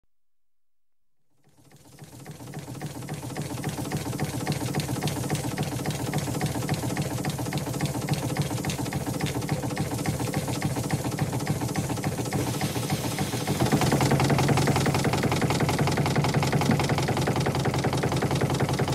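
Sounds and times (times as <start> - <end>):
steam engine clicking: 1.6 - 18.9.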